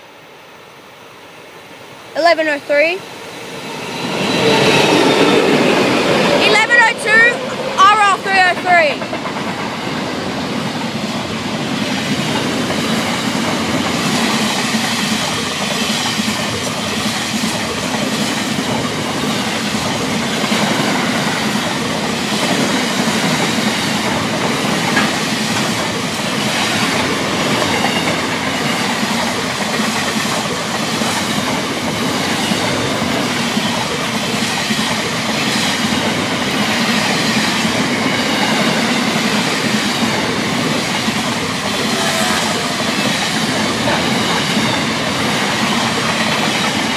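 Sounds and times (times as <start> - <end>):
train wheels running on rails: 1.7 - 46.9.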